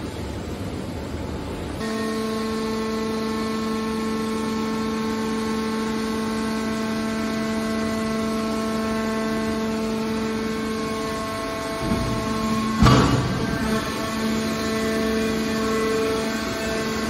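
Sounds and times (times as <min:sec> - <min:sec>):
hydraulic pump whining: 0:01.8 - 0:17.0.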